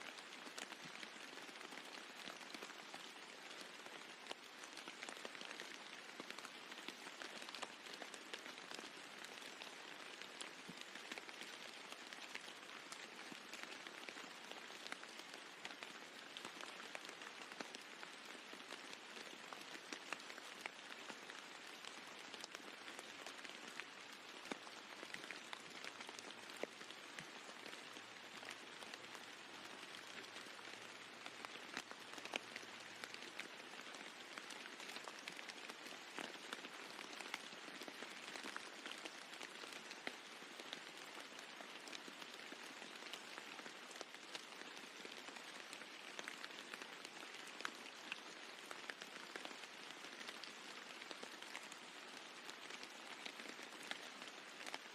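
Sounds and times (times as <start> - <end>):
rain on a roof: 0.0 - 54.9.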